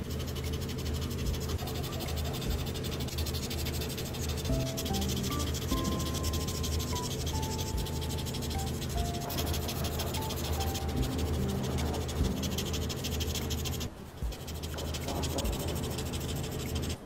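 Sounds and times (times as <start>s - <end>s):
marker scribbling on paper: 0.0s - 17.0s
soft background music: 0.0s - 17.0s.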